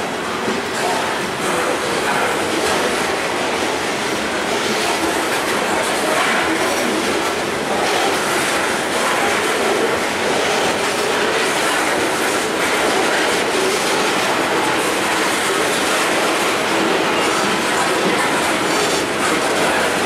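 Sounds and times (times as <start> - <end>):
steel train wheels on rails: 0.0 - 20.0.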